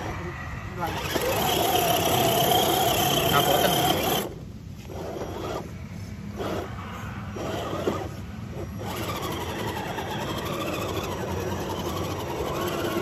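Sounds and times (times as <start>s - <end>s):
electric motor humming: 0.8s - 5.7s, 6.3s - 13.0s.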